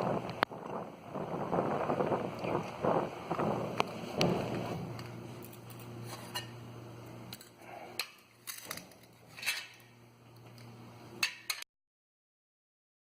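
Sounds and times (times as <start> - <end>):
faint steady hum: 0.0 - 11.6.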